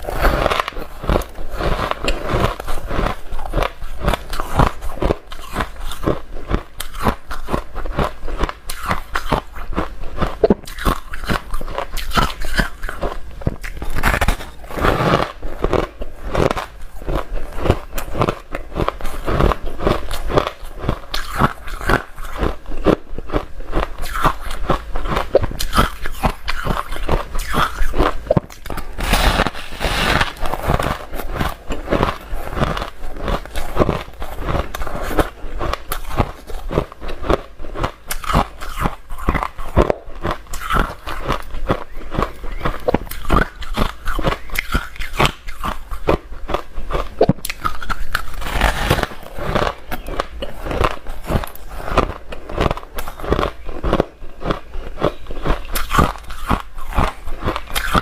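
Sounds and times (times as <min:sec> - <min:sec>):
person chewing ice: 0:00.0 - 0:58.0.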